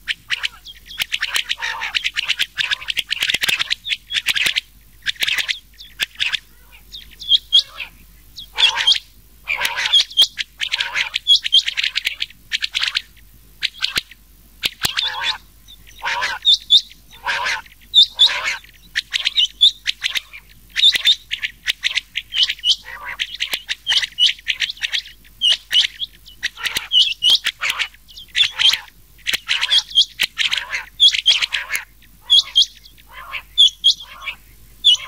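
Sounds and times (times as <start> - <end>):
quail calls: 0.0 - 35.0.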